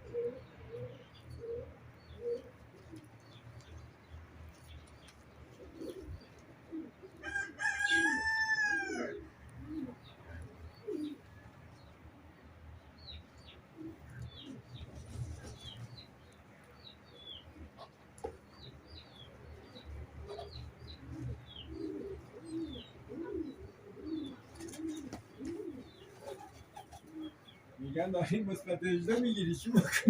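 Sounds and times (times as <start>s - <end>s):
birds chirping: 0.0s - 30.0s
pigeons cooing: 0.0s - 30.0s.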